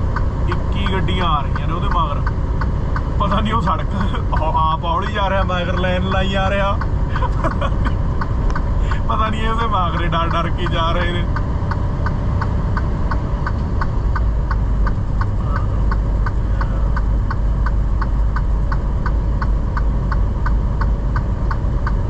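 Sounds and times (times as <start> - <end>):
indicator flasher ticking: 0.0 - 22.0
road noise: 0.0 - 22.0
truck engine drone: 0.0 - 22.0.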